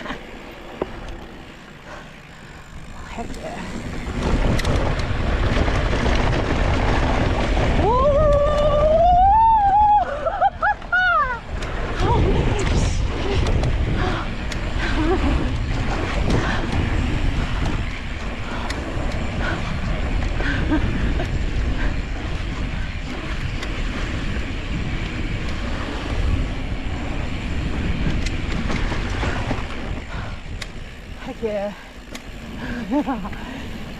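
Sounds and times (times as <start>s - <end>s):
bike clicks and rattles: 0.0s - 33.9s
tyres rolling on dirt and rock: 0.0s - 33.9s
wind buffeting microphone: 0.0s - 33.9s.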